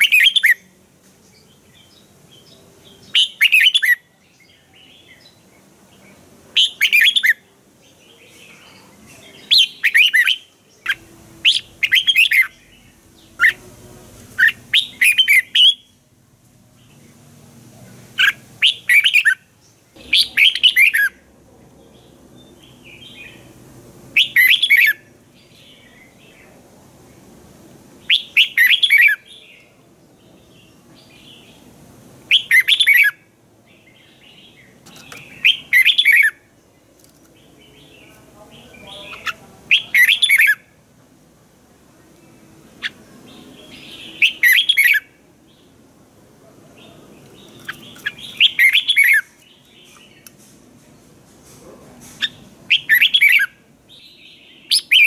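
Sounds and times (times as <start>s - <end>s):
bulbul chattering song: 0.0s - 16.2s, 18.0s - 26.6s, 27.9s - 36.5s, 37.4s - 40.8s, 42.0s - 46.0s, 46.7s - 50.4s, 52.2s - 55.0s.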